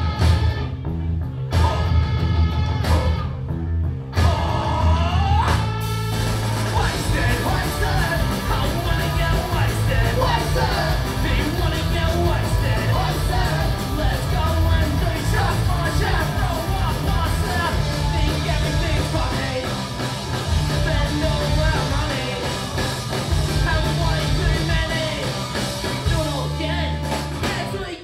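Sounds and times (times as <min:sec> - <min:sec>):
bass guitar: 0:00.0 - 0:28.0
electric guitars: 0:00.0 - 0:28.0
sung vocals: 0:04.1 - 0:06.0, 0:06.6 - 0:28.0.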